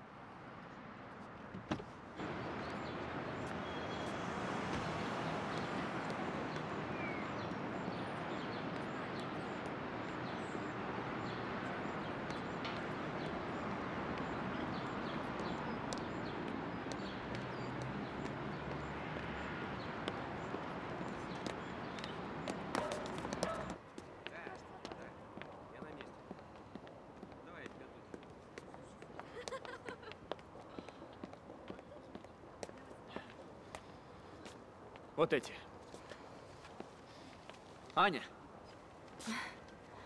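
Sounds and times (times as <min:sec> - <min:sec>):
city street traffic: 0:00.0 - 0:40.0.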